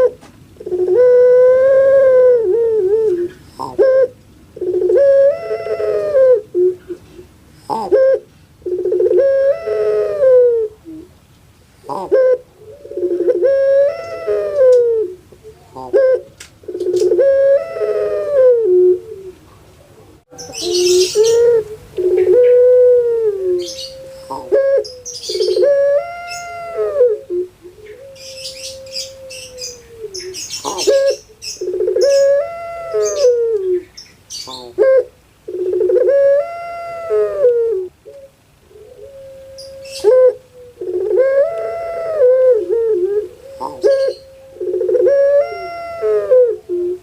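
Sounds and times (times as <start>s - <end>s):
dove cooing: 0.0s - 11.2s, 11.8s - 47.0s.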